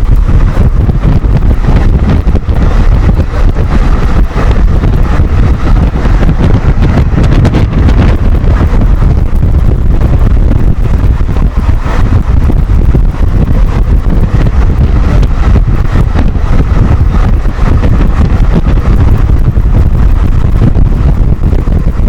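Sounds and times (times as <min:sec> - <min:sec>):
train rumble: 0:00.0 - 0:22.0
wind buffeting microphone: 0:00.0 - 0:22.0.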